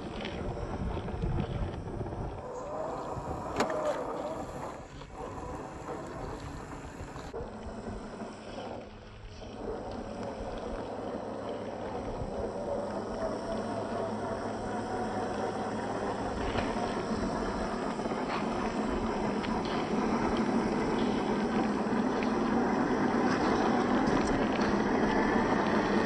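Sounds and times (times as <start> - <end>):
rc car motor whine: 0.0 - 26.0.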